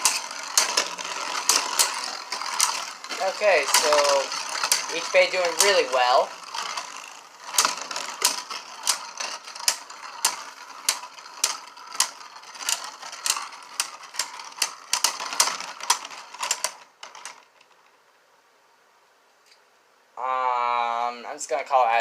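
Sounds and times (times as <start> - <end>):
spinning tops clacking together: 0.0 - 17.8
spinning tops whirring scrape: 0.0 - 17.9.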